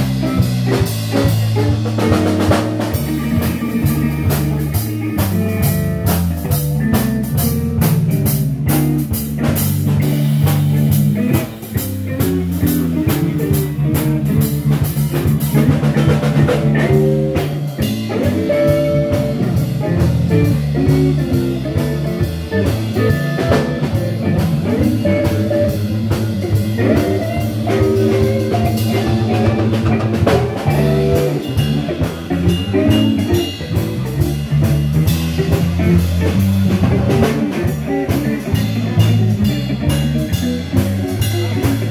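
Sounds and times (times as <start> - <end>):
drum kit: 0.0 - 41.9
electric bass: 0.0 - 41.9
electric guitar: 0.0 - 41.9.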